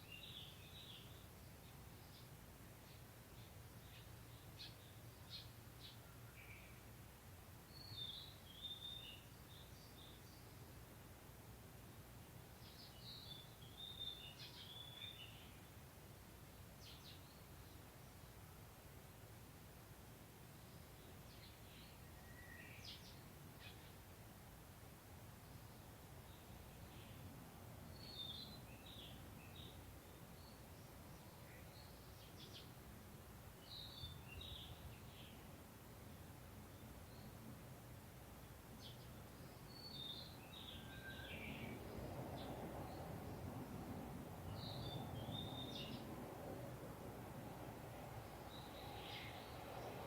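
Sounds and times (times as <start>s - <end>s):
songbird singing: 0.0s - 18.6s, 20.5s - 24.3s, 25.3s - 50.0s.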